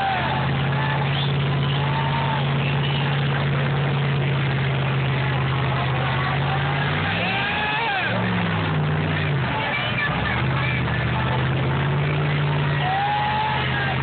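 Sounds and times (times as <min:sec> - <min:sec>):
truck engine droning in mud: 0:00.0 - 0:14.0.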